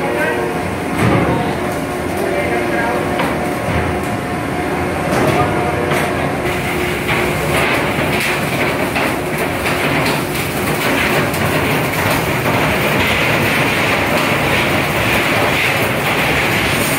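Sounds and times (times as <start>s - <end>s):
loud machine noise: 0.0s - 16.9s.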